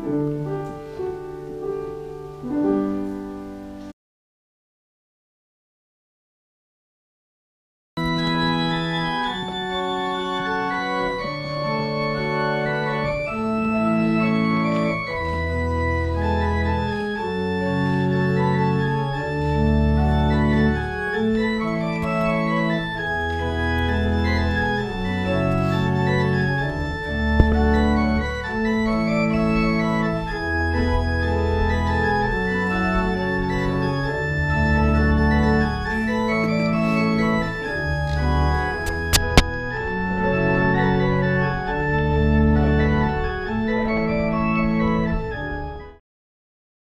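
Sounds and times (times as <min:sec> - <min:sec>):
church organ playing chords: 0:08.0 - 0:46.0.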